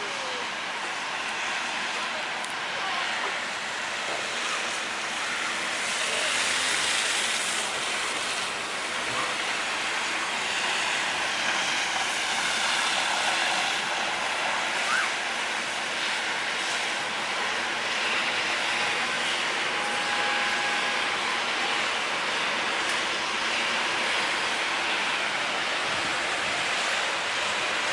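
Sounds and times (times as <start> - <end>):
tyres hissing on snowy road: 0.0 - 27.9.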